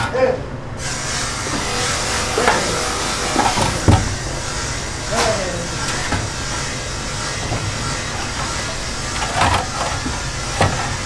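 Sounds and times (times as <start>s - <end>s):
low machinery rumble: 0.5s - 11.0s.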